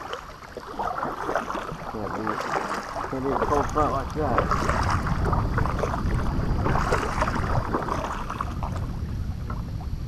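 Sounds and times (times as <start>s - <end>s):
water splashing around kayak: 0.0s - 10.0s
wind buffeting microphone: 0.0s - 10.0s.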